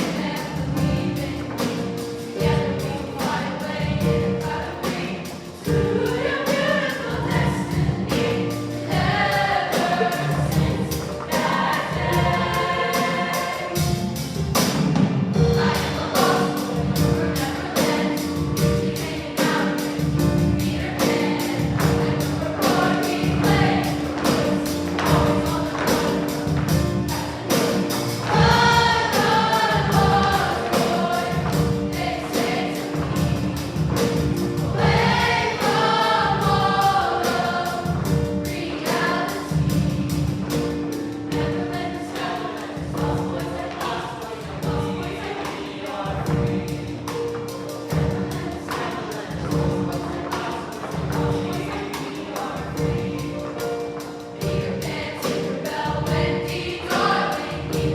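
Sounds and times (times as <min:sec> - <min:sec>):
choir singing with accompaniment: 0:00.0 - 0:57.9.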